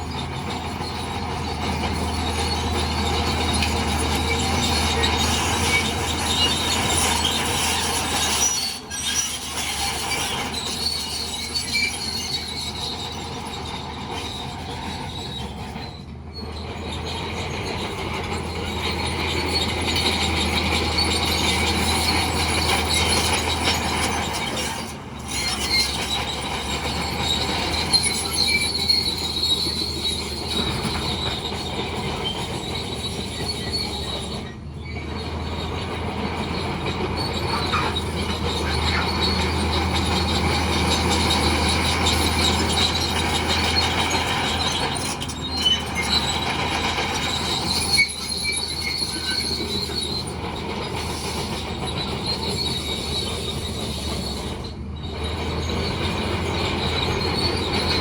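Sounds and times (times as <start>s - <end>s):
bulldozer engine drone: 0.0s - 58.0s
crawler tracks squealing and clanking: 0.0s - 58.0s.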